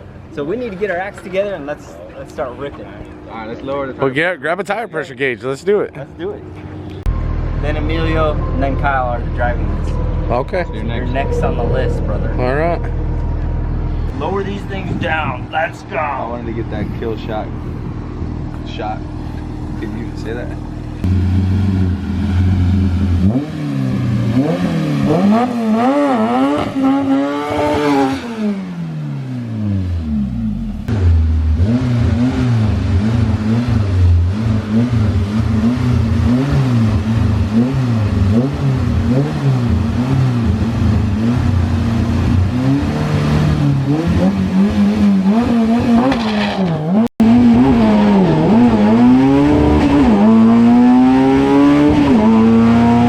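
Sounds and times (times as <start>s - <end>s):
truck engine revving: 6.9s - 53.0s.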